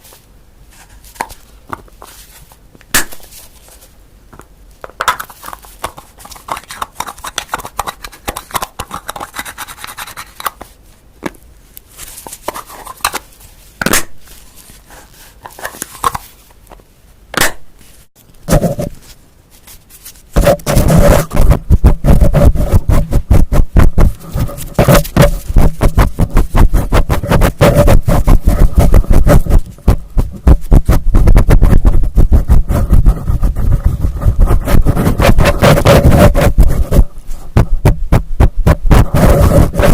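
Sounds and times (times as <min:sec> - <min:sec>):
scratching and tapping on objects: 0:00.8 - 0:16.8, 0:18.5 - 0:39.9.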